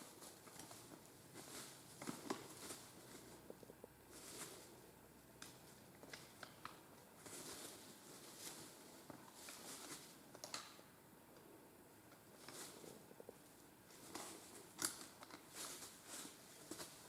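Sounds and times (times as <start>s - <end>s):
faint rustling: 0.0s - 10.4s, 11.4s - 17.0s.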